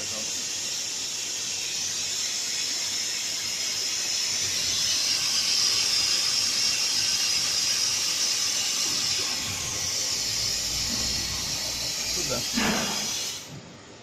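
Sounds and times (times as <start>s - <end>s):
plasma torch hissing: 0.0s - 13.7s.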